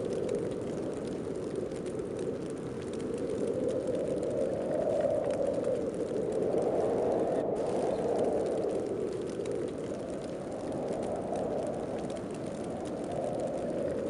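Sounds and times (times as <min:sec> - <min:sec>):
snowstorm wind gusting: 0:00.0 - 0:14.0.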